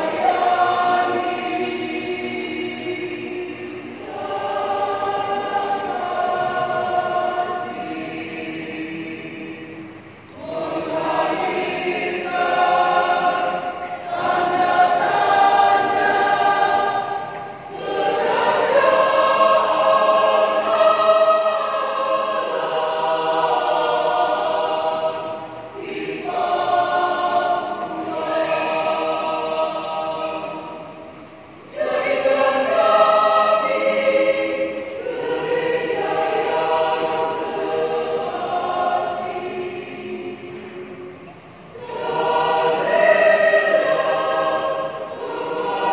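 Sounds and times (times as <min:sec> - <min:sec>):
church choir singing: 0:00.0 - 0:45.9.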